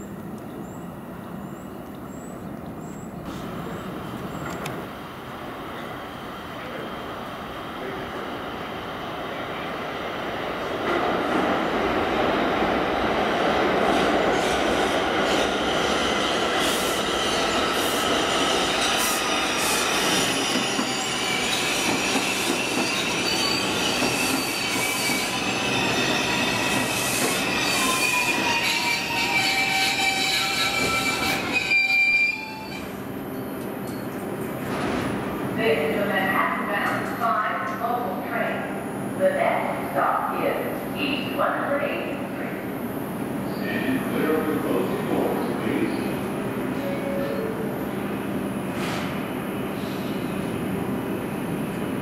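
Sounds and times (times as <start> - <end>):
subway train rolling on rails: 0.0 - 52.0.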